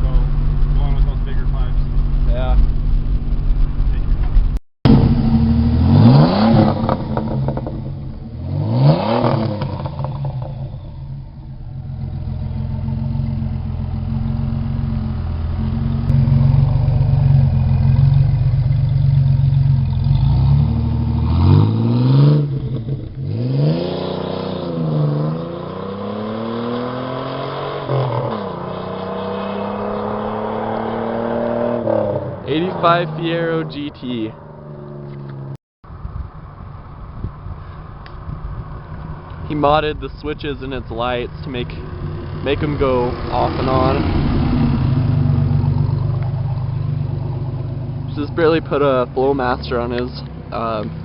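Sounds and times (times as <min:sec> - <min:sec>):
car exhaust accelerating: 0:00.0 - 0:51.0.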